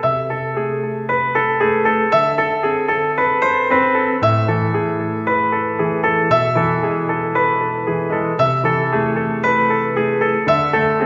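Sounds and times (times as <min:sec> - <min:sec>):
sustained keyboard chords: 0:00.0 - 0:11.0.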